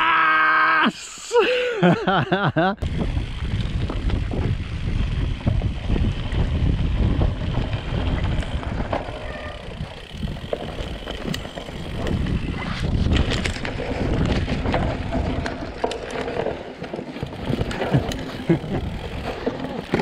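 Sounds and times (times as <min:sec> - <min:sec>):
wind rumble on microphone: 0:02.8 - 0:16.5, 0:17.2 - 0:20.0
bike rattling over bumps: 0:02.8 - 0:20.0
bike tyres rolling over soil: 0:02.8 - 0:20.0.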